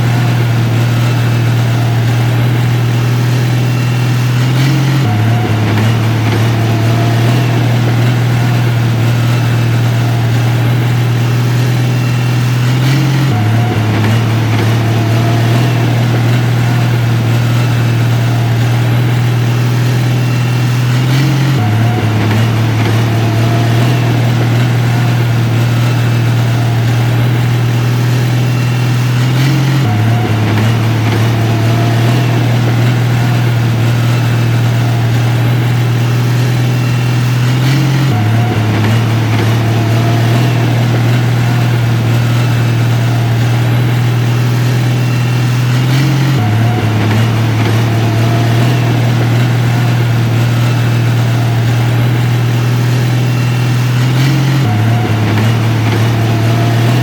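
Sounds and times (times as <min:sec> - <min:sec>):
heavy machinery engine humming: 0:00.0 - 0:57.0.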